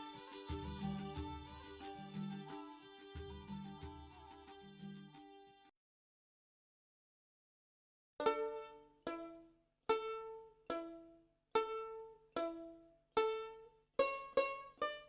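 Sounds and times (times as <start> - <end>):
plucked string melody: 0.0 - 5.6, 8.2 - 15.0.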